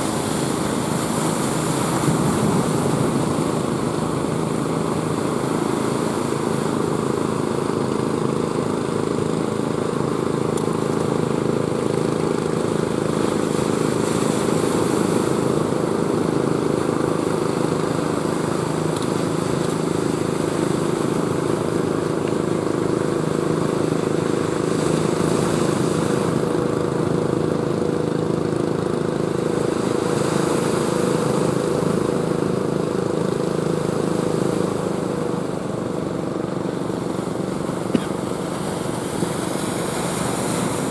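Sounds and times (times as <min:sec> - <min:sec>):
motor-like drone: 0:00.0 - 0:40.9
waves breaking: 0:00.0 - 0:40.9.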